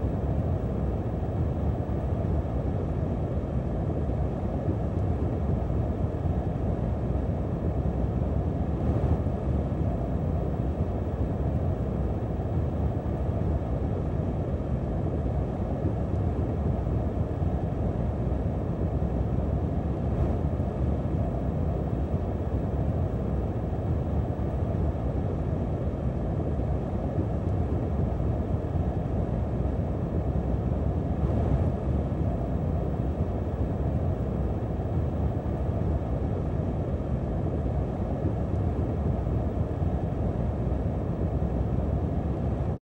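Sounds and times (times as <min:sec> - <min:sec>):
steady low wind rushing: 0:00.0 - 0:42.8.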